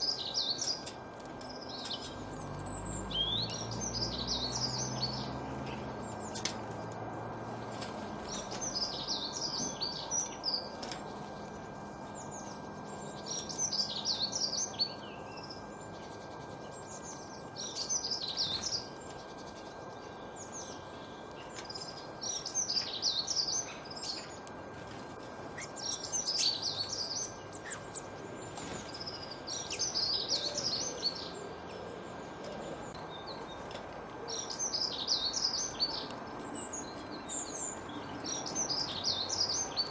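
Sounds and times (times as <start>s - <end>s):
faint constant tone: 0.0s - 39.9s
songbird chirping: 0.0s - 39.9s.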